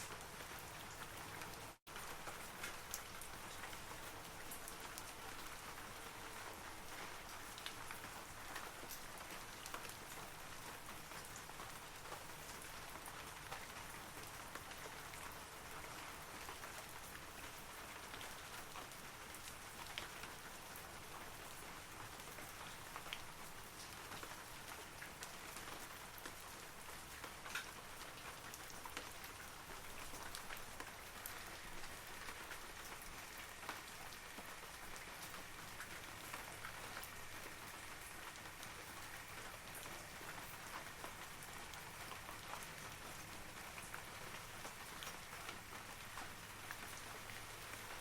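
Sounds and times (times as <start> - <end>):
rain falling on foliage: 0.0 - 48.0.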